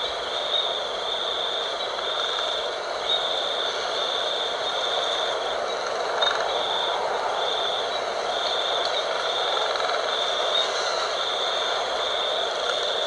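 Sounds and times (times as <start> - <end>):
wind blowing: 0.0 - 13.0.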